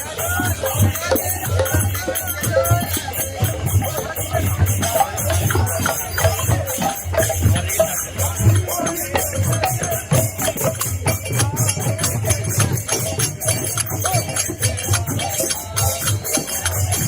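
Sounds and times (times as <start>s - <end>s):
hand cymbals clashing: 0.0s - 17.0s
hand drums: 0.0s - 17.0s.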